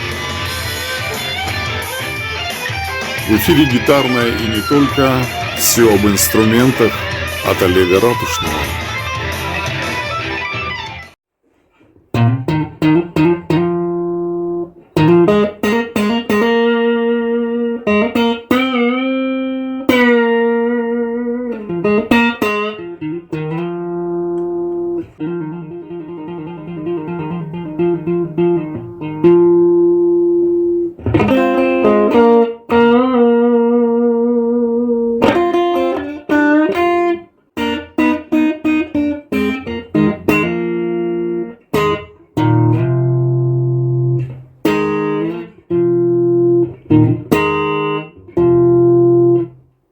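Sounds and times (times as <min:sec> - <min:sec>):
clean electric guitar: 0:00.0 - 0:49.9.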